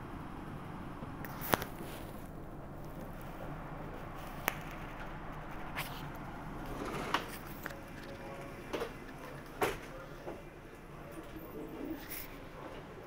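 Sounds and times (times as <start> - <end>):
train coach rumble and hum: 0.0 - 13.0.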